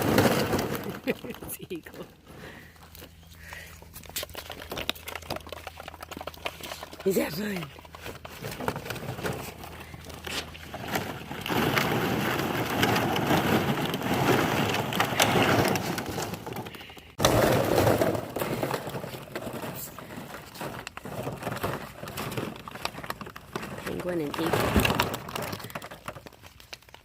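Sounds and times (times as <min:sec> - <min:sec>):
plastic balls crackling and clattering: 0:00.0 - 0:27.0.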